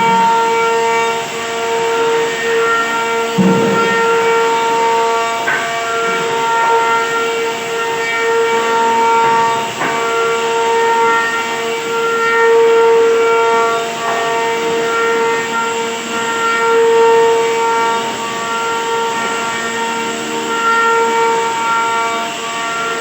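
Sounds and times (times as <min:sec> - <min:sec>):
woodworking machine whining: 0:00.0 - 0:23.0.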